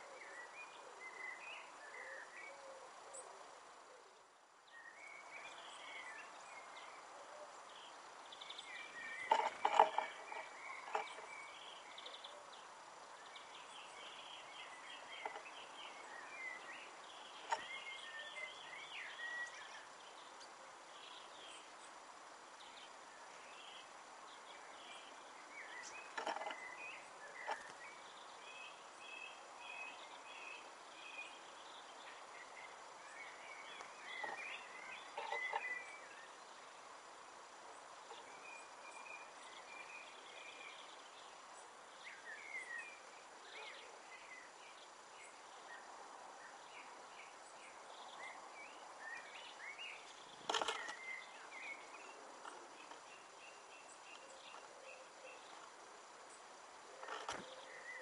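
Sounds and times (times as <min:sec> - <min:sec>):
background hiss: 0:00.0 - 0:58.0
small birds chirping: 0:00.0 - 0:58.0.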